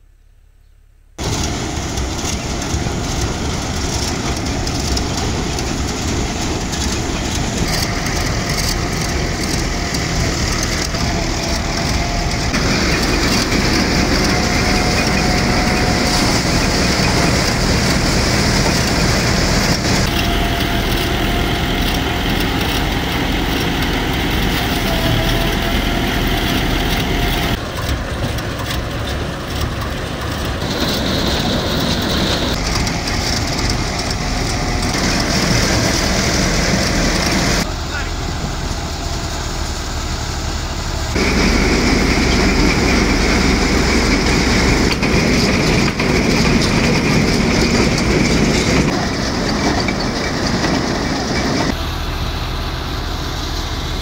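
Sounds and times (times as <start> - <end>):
rice thresher rattling: 1.2 - 54.0.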